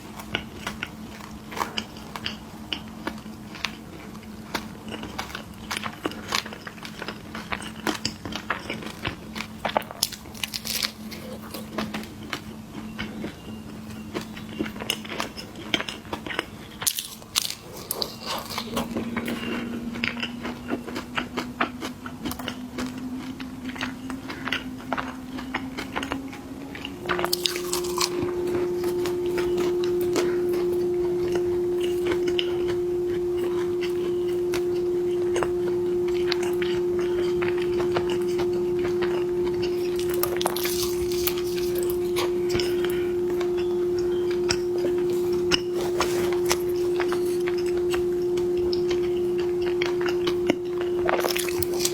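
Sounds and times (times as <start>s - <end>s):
crunchy snacks being chewed: 0.0s - 32.7s, 35.4s - 48.0s, 48.7s - 51.9s
steady hum: 0.0s - 51.9s.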